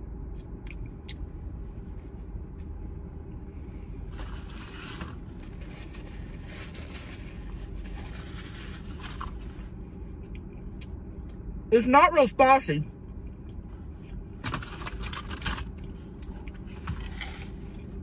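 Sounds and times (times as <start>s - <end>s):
low rumble in car cabin: 0.0s - 18.0s.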